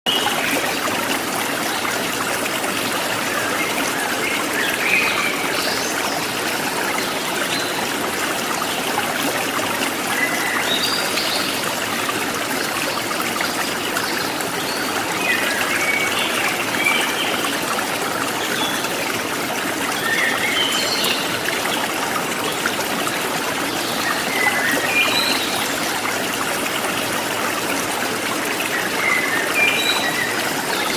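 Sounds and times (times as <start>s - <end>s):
stream water trickling: 0.1s - 30.9s.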